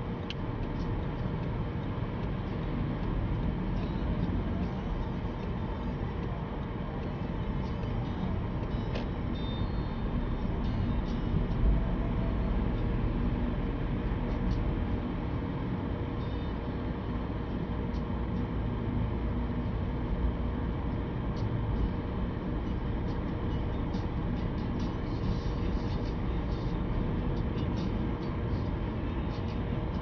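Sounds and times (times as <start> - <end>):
car tyres and engine rumble: 0.0 - 30.0.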